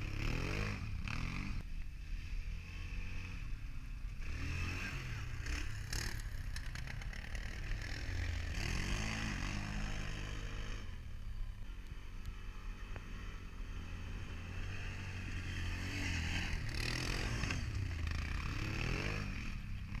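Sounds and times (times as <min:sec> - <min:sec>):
quad bike engines revving: 0:00.0 - 0:20.0.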